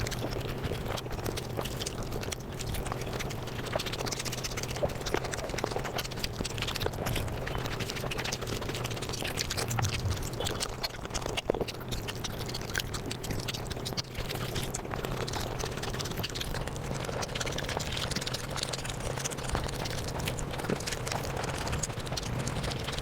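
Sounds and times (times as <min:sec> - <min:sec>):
sped-up chewing clicks: 0:00.0 - 0:23.0.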